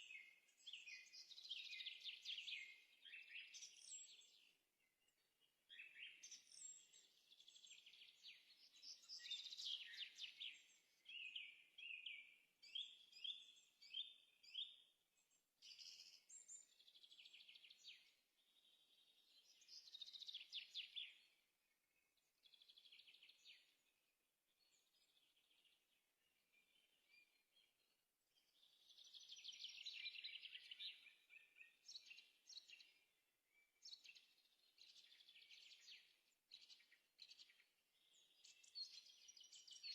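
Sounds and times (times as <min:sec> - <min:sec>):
faint songbird singing: 0:00.0 - 0:39.9.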